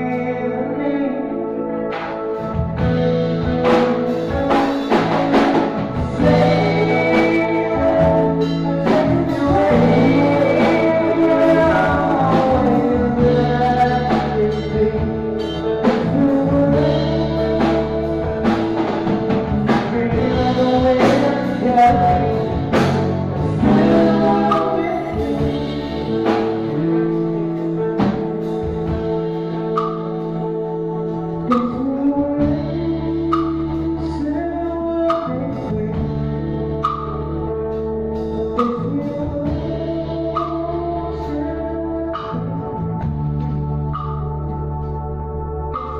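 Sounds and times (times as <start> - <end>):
person singing: 0.0 - 43.4
song with slow beat: 0.0 - 45.9.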